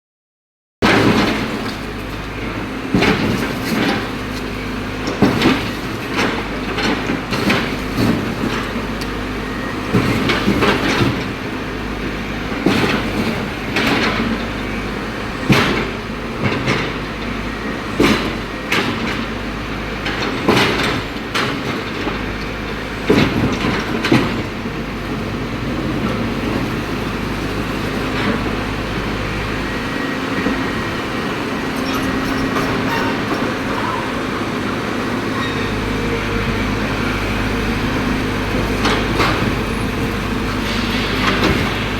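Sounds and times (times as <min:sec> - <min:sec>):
excavator diesel engine running: 0:00.9 - 0:41.9.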